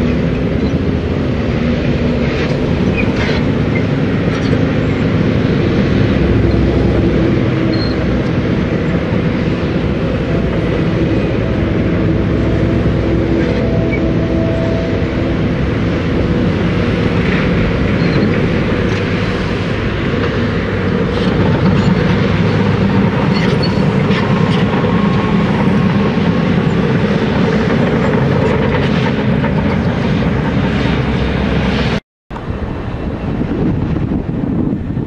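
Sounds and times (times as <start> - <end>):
diesel truck engine rumble: 0.0 - 35.0.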